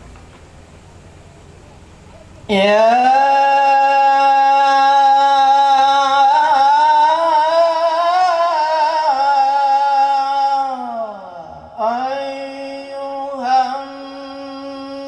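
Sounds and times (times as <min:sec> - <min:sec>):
man singing into a microphone: 0:02.5 - 0:15.0.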